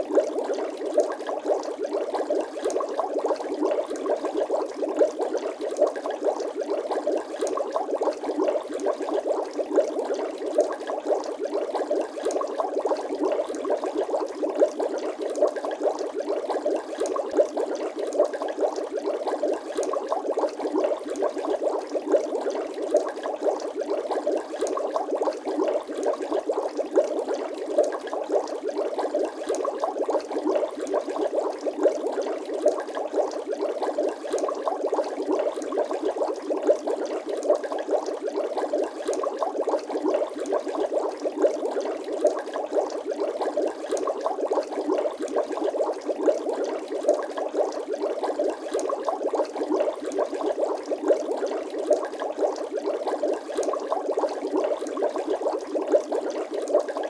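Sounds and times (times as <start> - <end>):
water bubbling and gurgling: 0.0 - 57.0.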